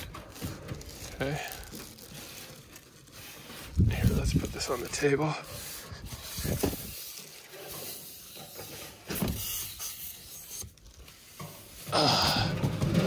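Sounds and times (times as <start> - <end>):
packing scraping against metal: 0.0 - 13.0.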